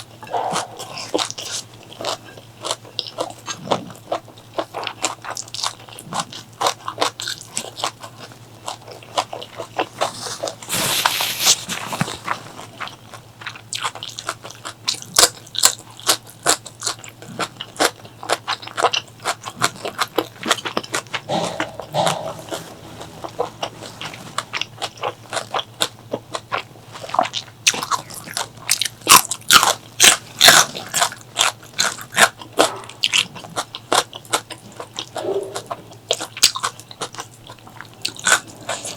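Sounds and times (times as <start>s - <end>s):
biting and chewing food: 0.0s - 38.9s.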